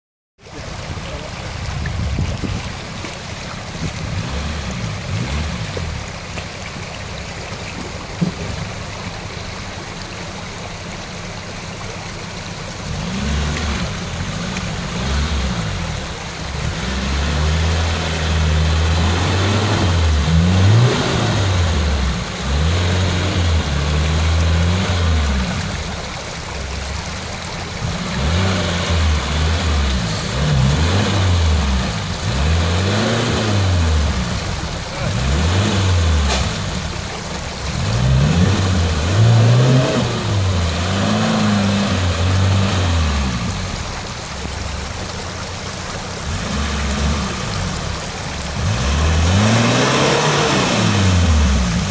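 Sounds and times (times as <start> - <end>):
stream rushing: 0.4 - 51.9
car engine revving: 3.8 - 6.4, 12.7 - 51.9.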